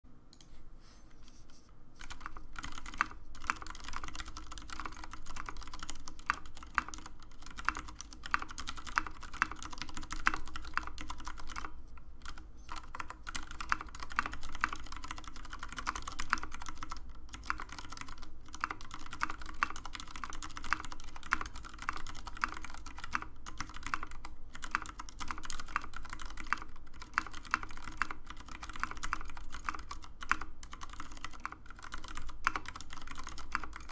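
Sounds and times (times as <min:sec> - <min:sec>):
mechanical keyboard typing: 0:02.0 - 0:33.9.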